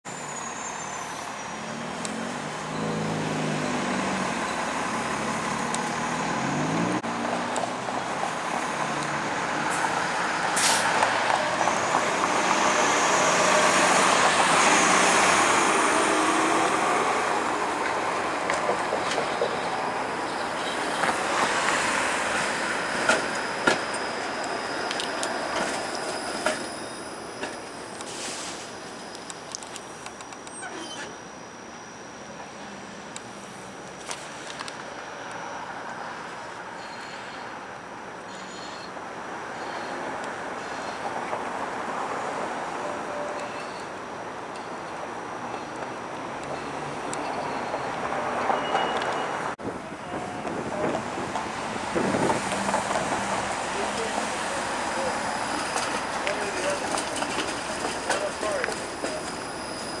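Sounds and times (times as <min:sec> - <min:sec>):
road traffic passing: 0:00.0 - 1:00.0
streetcars running on track: 0:00.0 - 1:00.0.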